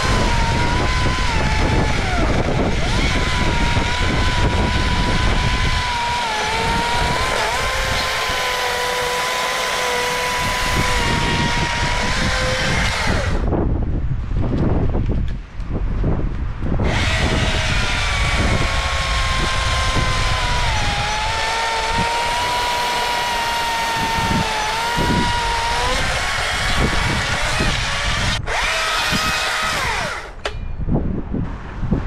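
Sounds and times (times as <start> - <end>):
battery chainsaw whining: 0.0 - 13.5, 16.8 - 30.6.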